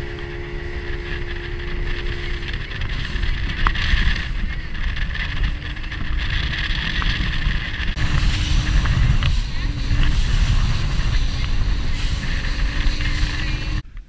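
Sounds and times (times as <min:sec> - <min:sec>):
boat motor: 0:00.0 - 0:13.8
water spraying along hull: 0:00.0 - 0:13.8
wind buffeting microphone: 0:00.0 - 0:14.0.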